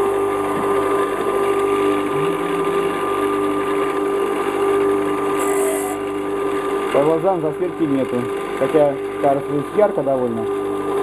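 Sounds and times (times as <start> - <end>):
bench grinder motor humming: 0.0 - 11.0.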